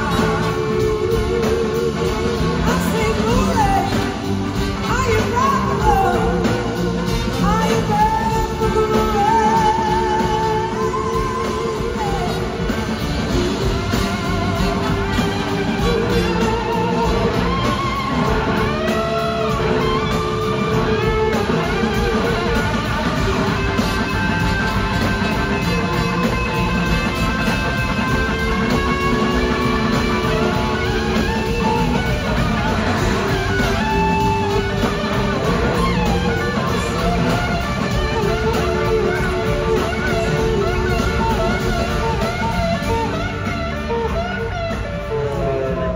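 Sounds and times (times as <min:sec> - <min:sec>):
drum kits: 0:00.0 - 0:45.9
electric guitar lead: 0:00.0 - 0:45.9
rhythm guitar: 0:00.0 - 0:45.9.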